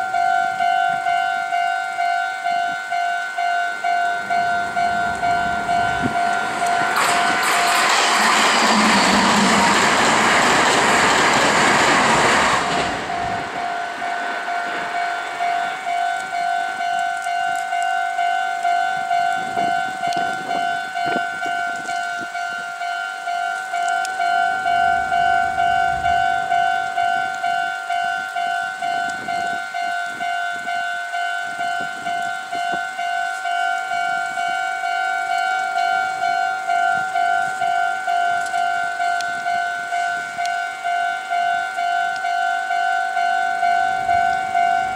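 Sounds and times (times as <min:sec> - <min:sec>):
level crossing bell ringing: 0:00.0 - 0:07.8, 0:12.6 - 0:44.9
passing train: 0:00.0 - 0:44.9.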